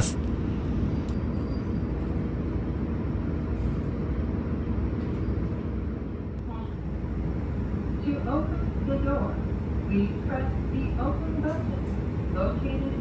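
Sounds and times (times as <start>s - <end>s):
diesel railcar engine hum: 0.0s - 13.0s.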